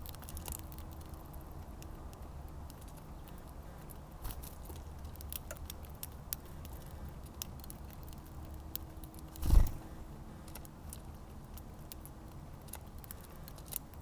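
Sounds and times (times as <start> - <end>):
birds pecking seed: 0.0 - 14.0.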